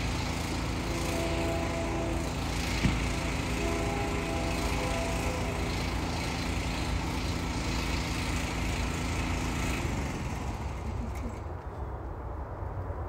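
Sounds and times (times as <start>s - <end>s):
faint steady tones: 0.0s - 11.5s
motor running: 0.0s - 11.5s.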